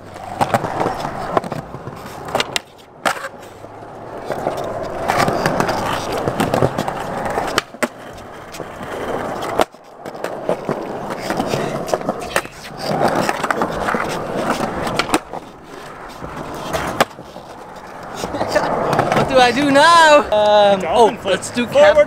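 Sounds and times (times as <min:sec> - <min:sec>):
skateboard clacking on ground: 0:00.0 - 0:22.0
skateboard wheels rolling on concrete: 0:00.0 - 0:22.0.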